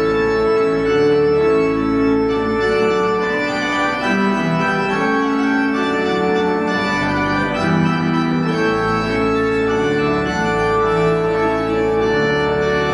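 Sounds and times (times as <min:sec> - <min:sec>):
organ playing chords: 0:00.0 - 0:12.9.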